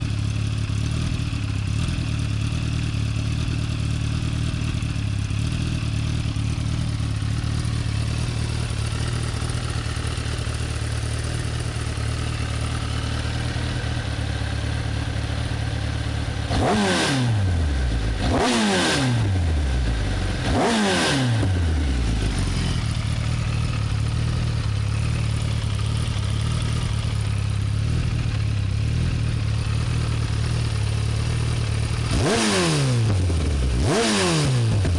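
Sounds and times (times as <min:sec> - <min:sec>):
motorcycle engine idling: 0:00.0 - 0:34.9
motorcycle throttle blips: 0:04.4 - 0:34.9.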